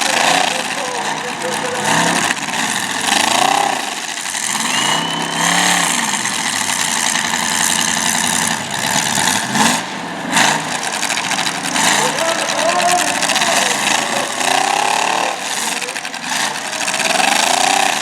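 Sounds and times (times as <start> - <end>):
car engines revving: 0.0 - 18.0
constant noisy din: 0.0 - 18.0.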